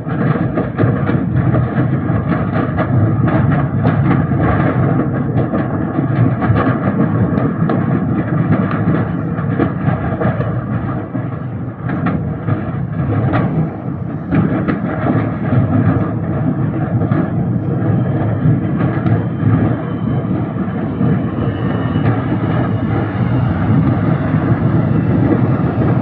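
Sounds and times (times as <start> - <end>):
explosion cracks and bangs: 0.0 - 26.0
fire deep rumble: 0.0 - 26.0.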